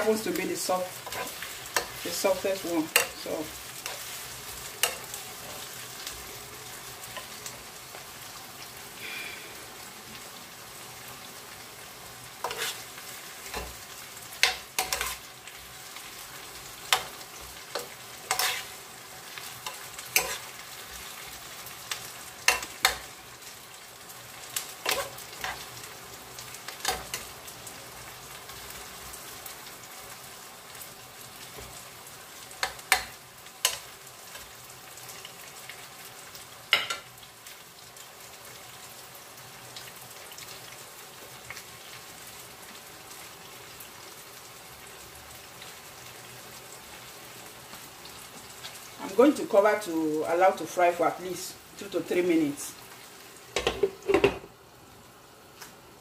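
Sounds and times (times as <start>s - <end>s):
vegetables sizzling in a pan: 0.0s - 56.0s.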